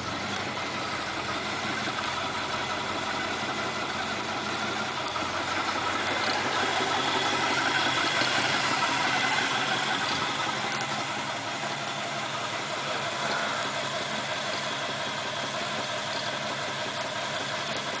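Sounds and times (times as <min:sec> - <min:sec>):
engine idling: 0:00.0 - 0:18.0
engine knock: 0:00.0 - 0:18.0.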